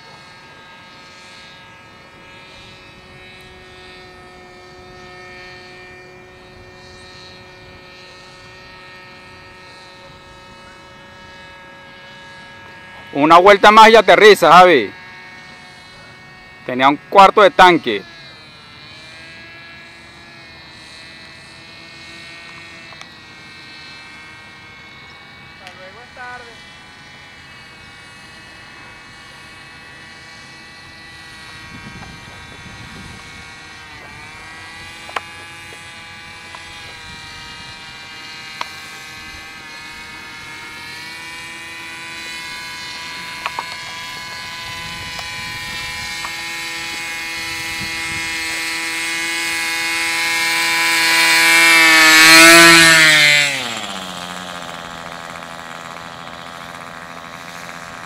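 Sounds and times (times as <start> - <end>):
model engine buzzing whine: 0.0 - 58.0.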